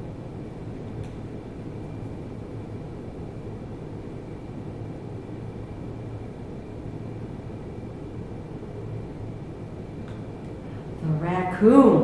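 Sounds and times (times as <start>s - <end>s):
faint high whine: 0.0s - 12.0s
room background rumble: 0.0s - 12.0s.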